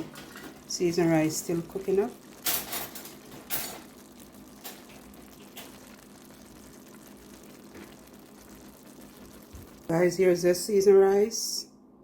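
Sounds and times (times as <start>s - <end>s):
rice simmering in a pot: 0.0s - 11.6s.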